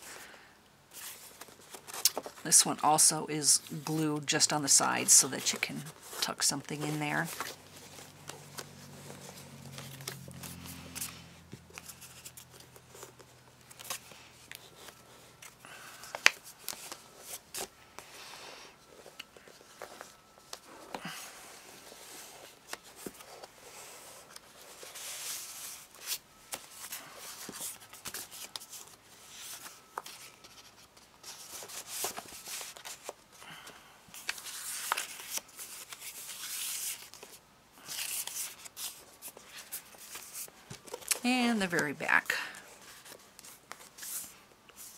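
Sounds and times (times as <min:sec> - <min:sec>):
paper rustling and sliding: 0:03.6 - 0:33.2, 0:34.1 - 0:41.2.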